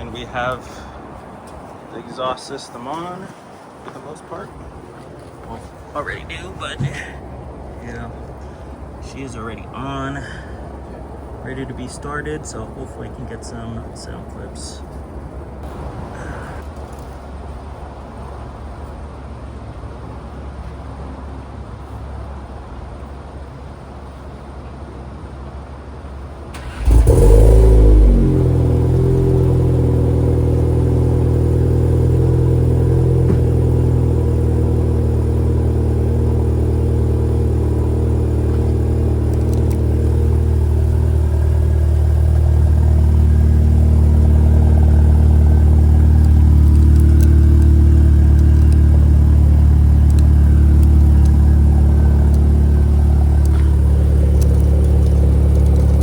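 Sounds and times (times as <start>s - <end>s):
car engine starting and idling: 0.0s - 3.2s, 4.1s - 17.6s, 26.0s - 56.0s.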